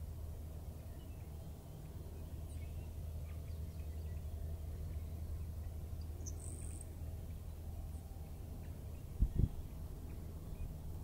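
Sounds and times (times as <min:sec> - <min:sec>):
sparrow singing: 0:00.8 - 0:10.8.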